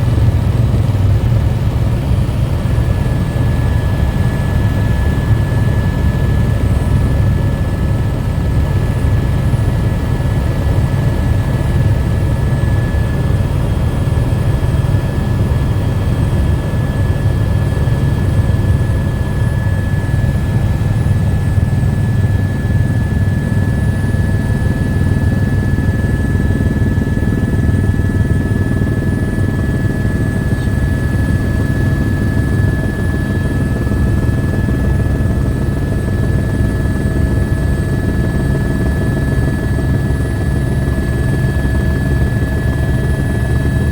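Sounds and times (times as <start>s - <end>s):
helicopter engine and rotor drone: 0.0s - 43.9s
thin steady whine: 0.0s - 43.9s.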